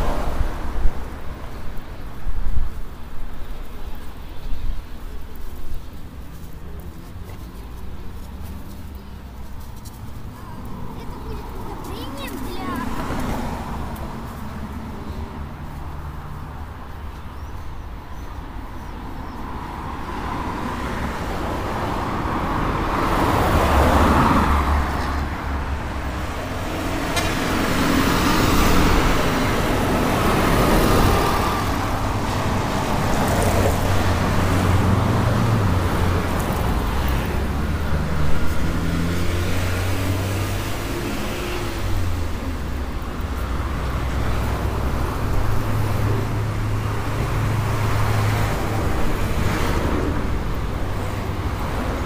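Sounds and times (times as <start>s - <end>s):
vehicles driving past: 0.0s - 52.0s.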